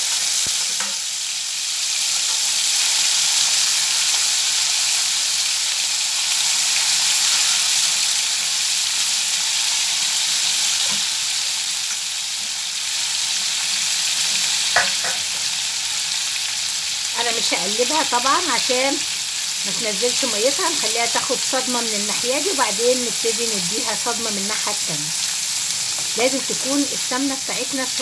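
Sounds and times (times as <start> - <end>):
chicken sizzling in a wok: 0.0 - 28.0.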